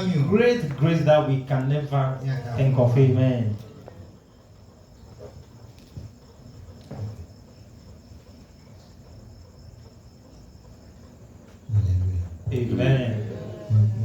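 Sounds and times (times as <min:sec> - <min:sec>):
crickets trilling faintly: 0:00.0 - 0:14.0
low room noise: 0:00.0 - 0:14.0.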